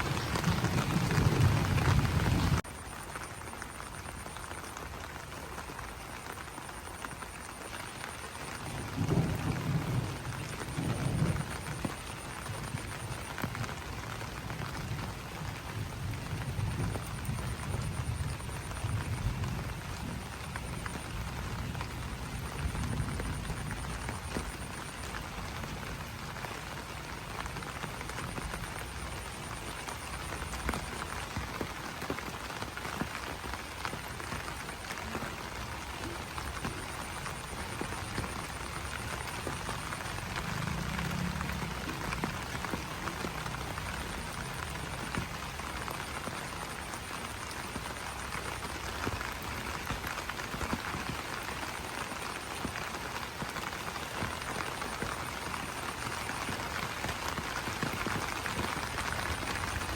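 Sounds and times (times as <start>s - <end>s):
rain on leaves: 0.0s - 59.9s.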